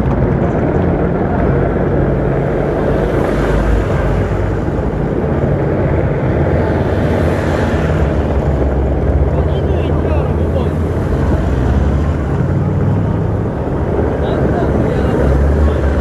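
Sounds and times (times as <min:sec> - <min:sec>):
motorcycle engines passing: 0:00.0 - 0:16.0
road and traffic noise: 0:00.0 - 0:16.0.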